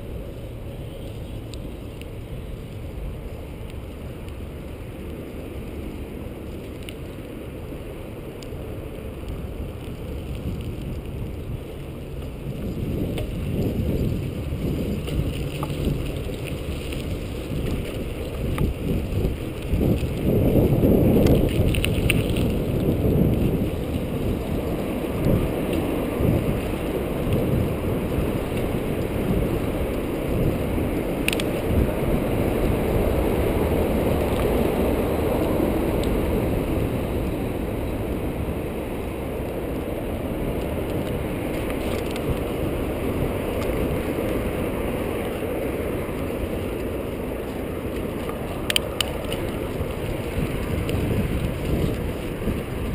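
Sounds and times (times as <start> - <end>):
tyres rumbling on pavement: 0.0 - 52.9
wind buffeting microphone: 8.1 - 52.9.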